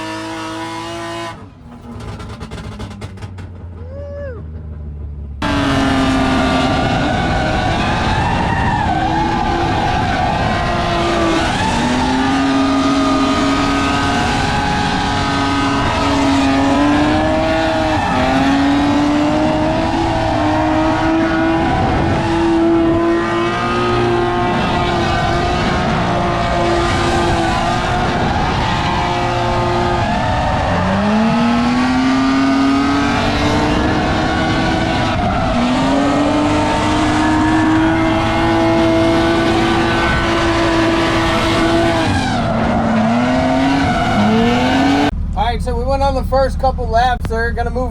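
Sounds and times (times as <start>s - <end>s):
car engine revving high: 0.0s - 47.9s.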